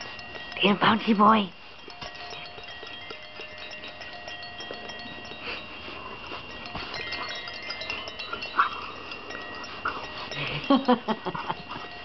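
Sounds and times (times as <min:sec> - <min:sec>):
hanging toy chimes tinkling: 0:00.0 - 0:12.0.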